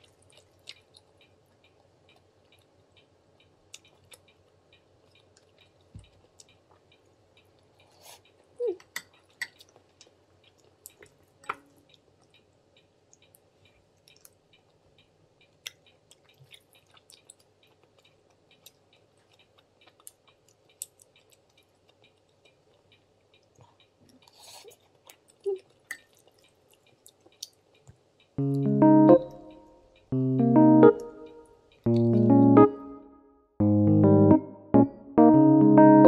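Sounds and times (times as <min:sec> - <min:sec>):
soft chewing: 0:00.0 - 0:30.2.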